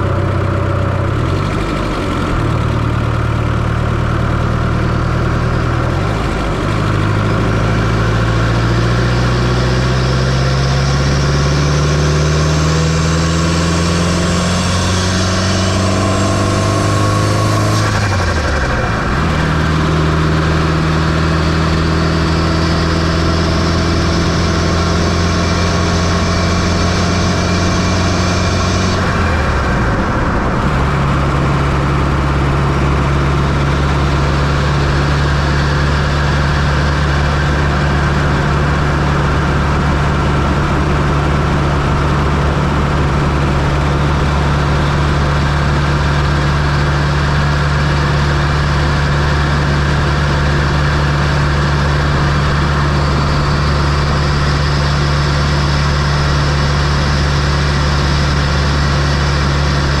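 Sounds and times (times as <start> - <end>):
car engine running steadily: 0.0 - 60.0.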